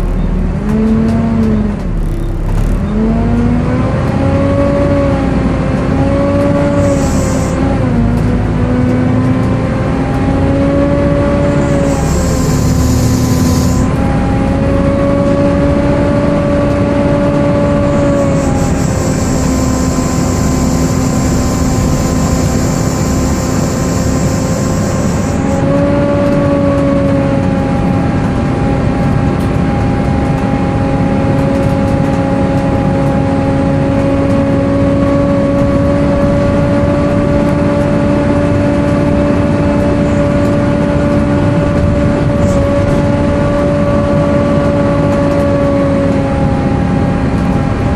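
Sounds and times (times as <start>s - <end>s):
bus cooling fan whine: 0.0s - 47.9s.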